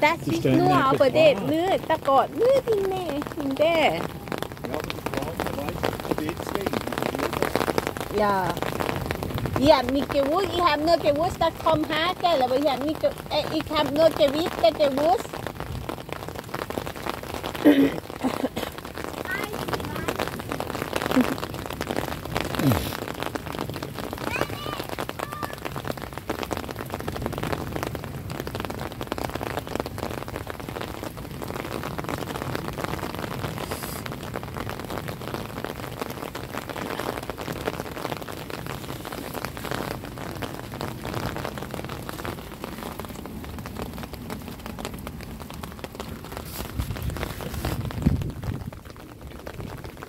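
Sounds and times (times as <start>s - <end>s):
heavy rain and hail: 0.0s - 50.0s.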